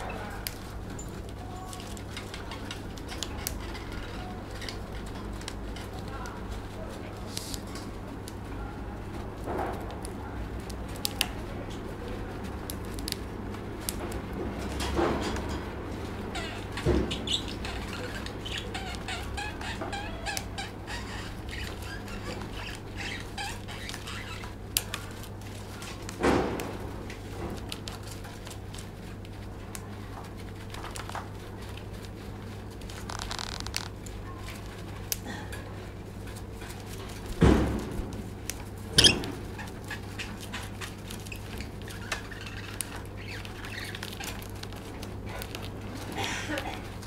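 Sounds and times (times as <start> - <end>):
bird rustling paper: 0.0 - 47.0.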